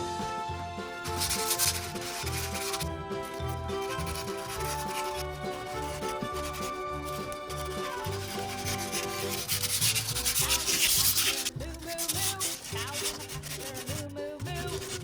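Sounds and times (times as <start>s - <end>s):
background music with beat: 0.0s - 15.0s
sanding wood: 0.0s - 15.0s.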